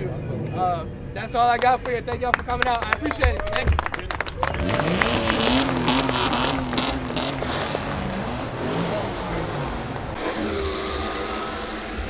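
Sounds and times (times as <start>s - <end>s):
car engines rumbling: 0.0s - 12.0s
people talking: 0.0s - 12.0s.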